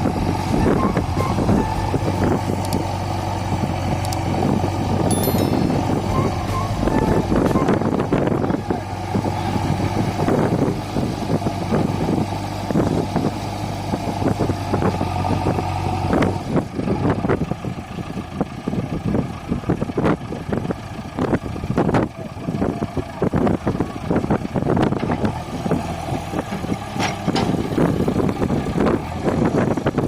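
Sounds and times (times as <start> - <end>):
heavy diesel engines running: 0.0 - 30.0.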